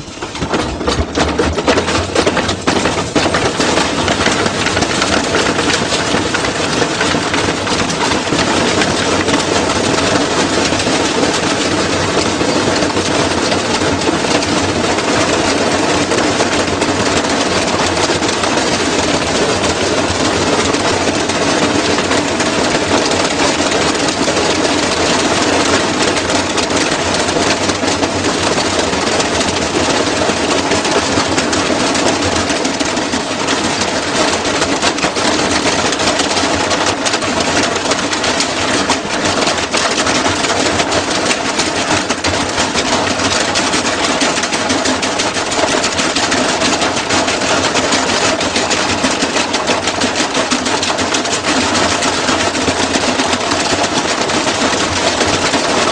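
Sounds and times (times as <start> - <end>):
washing machine rattling: 0.0 - 55.9.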